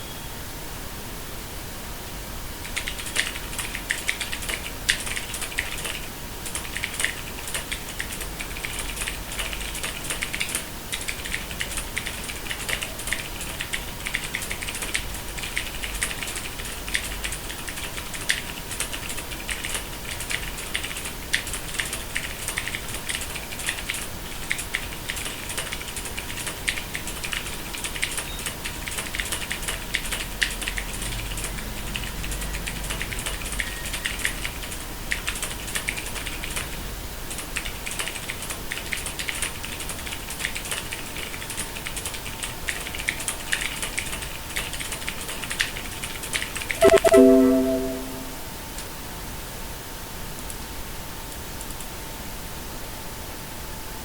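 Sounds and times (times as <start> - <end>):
mechanical keyboard typing: 2.7 - 48.1.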